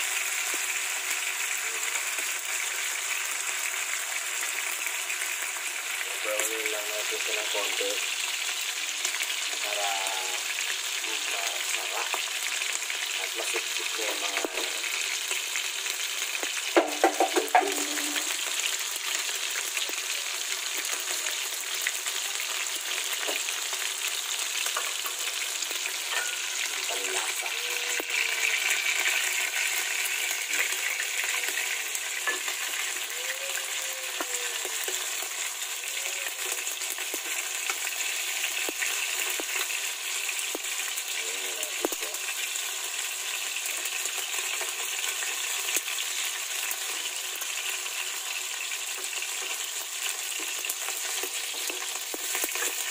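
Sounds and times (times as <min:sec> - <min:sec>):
fish sizzling in a frying pan: 0:00.0 - 0:52.9.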